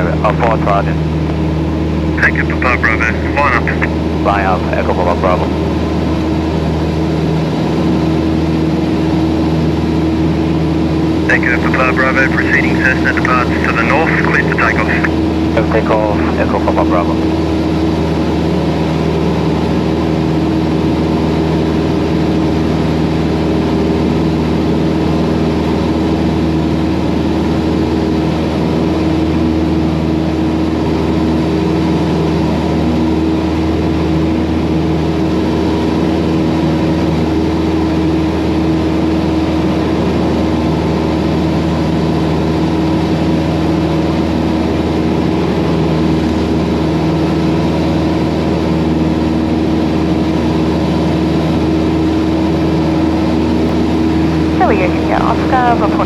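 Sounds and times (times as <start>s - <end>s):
plane engine and propeller: 0.0s - 56.0s.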